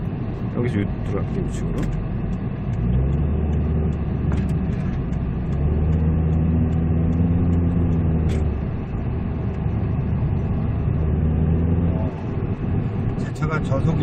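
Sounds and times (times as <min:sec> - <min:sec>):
car engine and road noise: 0:00.0 - 0:14.0
deep engine hum: 0:00.0 - 0:14.0.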